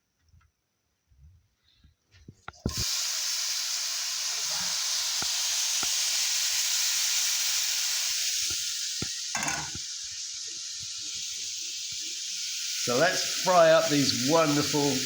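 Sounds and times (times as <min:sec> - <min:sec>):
mushrooms sizzling in a pan: 0:02.6 - 0:15.0.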